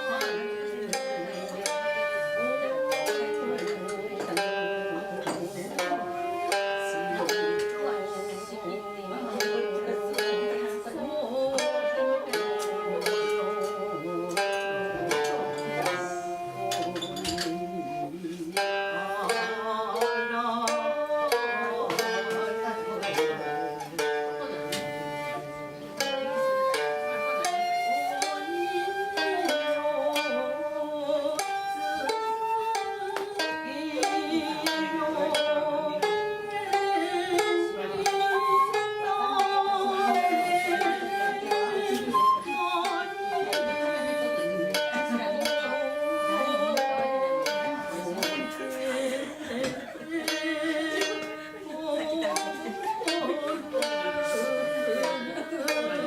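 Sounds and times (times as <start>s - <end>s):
plucked strings: 0.0s - 56.0s
shakuhachi flute melody: 0.0s - 56.0s.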